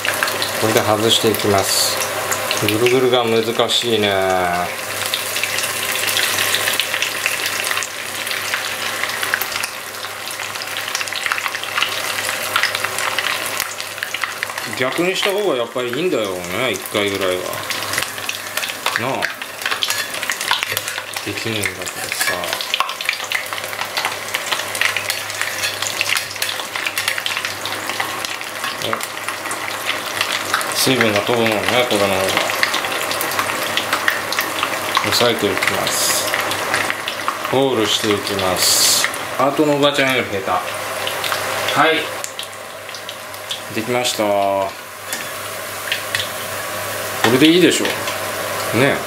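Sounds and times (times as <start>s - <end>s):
deep-frying sizzle with crackling pops: 0.0s - 49.0s.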